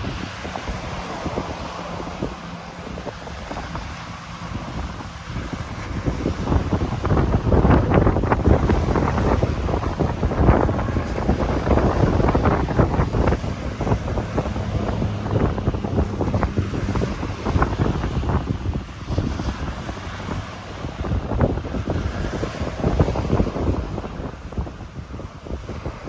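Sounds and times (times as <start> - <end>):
ocean waves: 0.0 - 26.0
wind buffeting microphone: 0.0 - 26.0.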